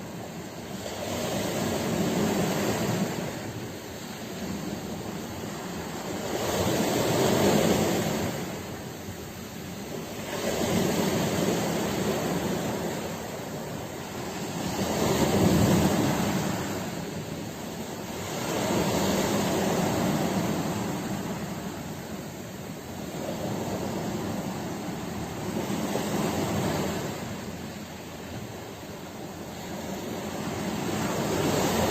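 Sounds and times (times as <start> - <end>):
sea waves washing on shore: 0.0 - 31.9.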